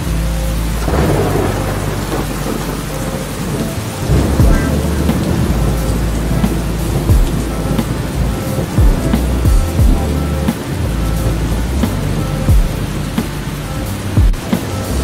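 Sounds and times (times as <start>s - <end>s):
steady rain: 0.0s - 15.0s
rolling thunder: 0.6s - 15.0s.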